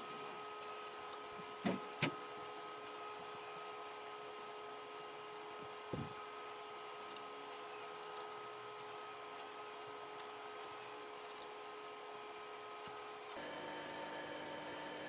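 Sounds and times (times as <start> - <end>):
workshop machine hum: 0.0 - 15.0.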